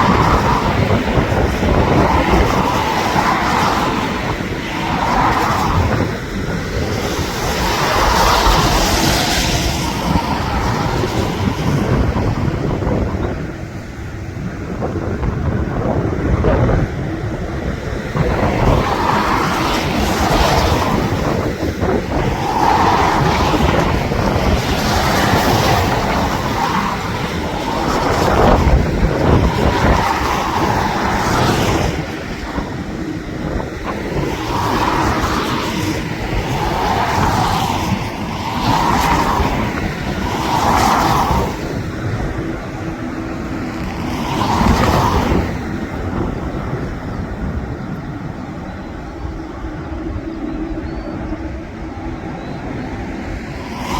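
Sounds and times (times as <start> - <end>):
jet airliner engines: 0.0 - 53.9
wind buffeting microphone: 0.0 - 53.9.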